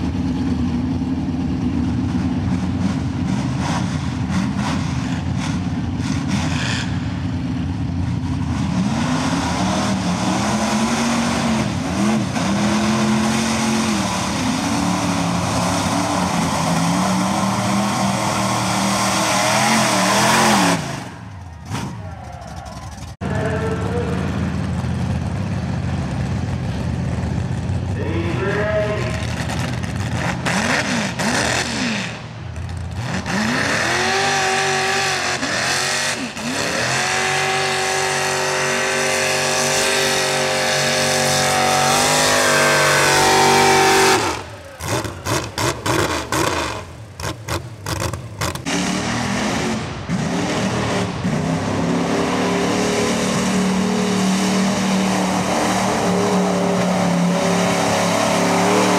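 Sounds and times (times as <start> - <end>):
truck engine running steadily: 0.0 - 58.9
truck engines revving in mud: 0.0 - 58.9.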